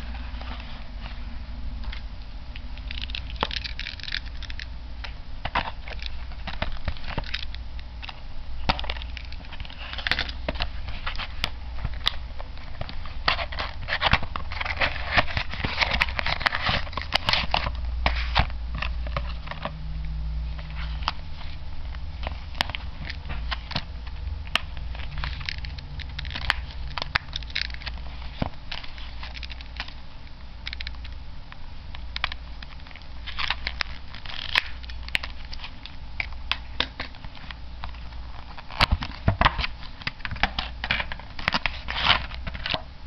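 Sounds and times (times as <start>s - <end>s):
packaging crinkling and rustling: 1.8s - 19.8s, 20.5s - 31.2s, 31.9s - 42.9s.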